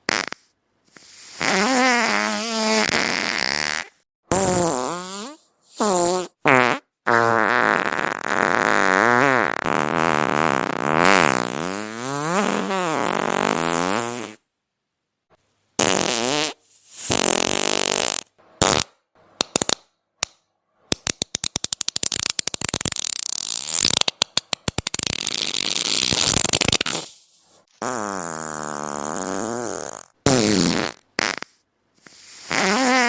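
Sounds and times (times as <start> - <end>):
farts: 0.0 - 14.4, 15.8 - 19.0, 21.8 - 33.0.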